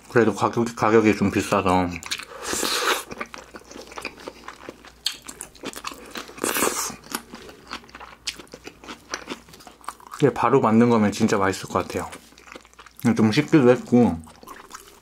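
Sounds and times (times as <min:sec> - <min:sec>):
chewing with mouth clicks: 0:01.6 - 0:10.3, 0:11.5 - 0:15.0.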